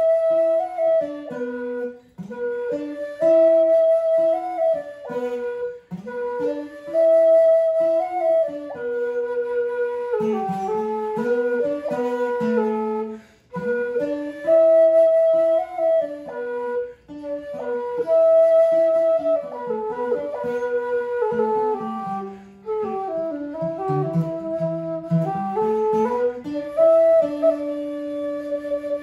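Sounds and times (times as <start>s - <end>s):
acoustic guitar picking: 0.0s - 29.0s
bamboo flute melody: 0.0s - 29.0s.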